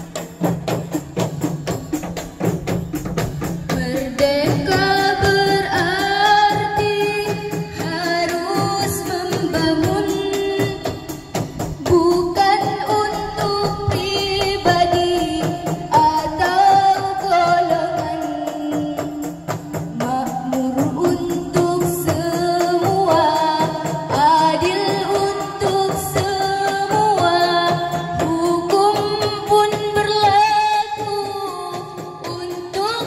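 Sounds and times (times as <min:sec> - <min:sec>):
frame drums beating: 0:00.0 - 0:33.0
women singing together: 0:03.6 - 0:33.0.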